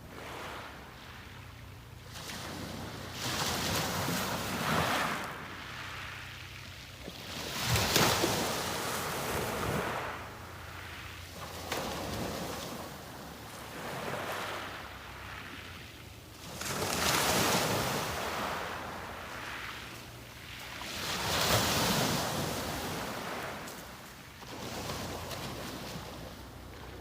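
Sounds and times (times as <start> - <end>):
waves breaking on beach: 0.0 - 27.0.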